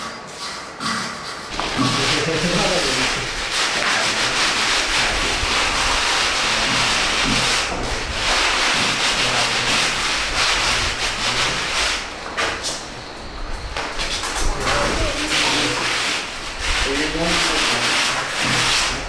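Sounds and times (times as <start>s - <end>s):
sandpaper scraping plaster wall: 0.0s - 19.0s.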